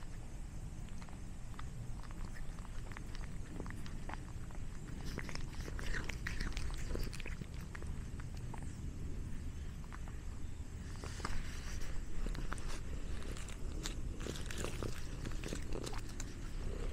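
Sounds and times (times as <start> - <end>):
cat chewing with mouth clicks: 0.0 - 16.9.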